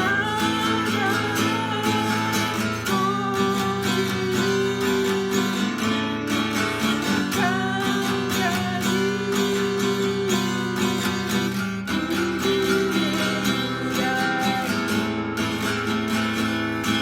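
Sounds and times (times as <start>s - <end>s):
acoustic guitar strummed waltz: 0.0s - 17.0s.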